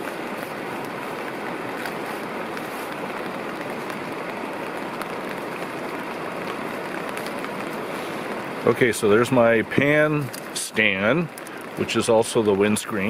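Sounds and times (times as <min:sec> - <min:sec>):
rain on a tarp: 0:00.0 - 0:13.0
river rushing: 0:00.0 - 0:13.0.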